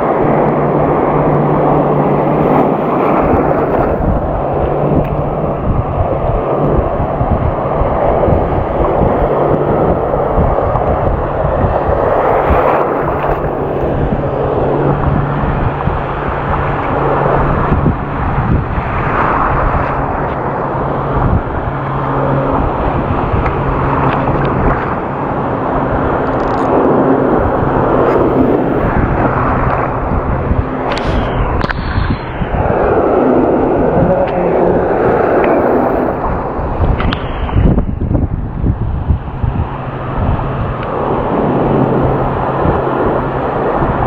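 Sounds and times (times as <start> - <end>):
surf washing over reef: 0.0 - 44.0.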